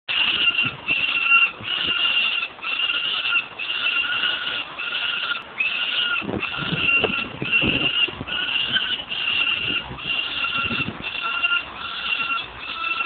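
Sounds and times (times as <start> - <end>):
falcons calling: 0.1 - 13.0.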